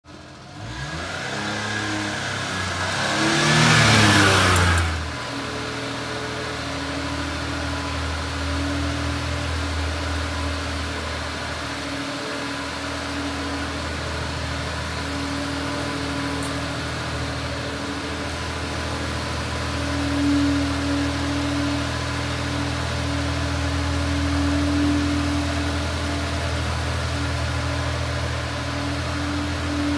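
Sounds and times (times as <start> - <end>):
engine idling: 0.1 - 29.9
small truck engine revving: 0.1 - 29.9.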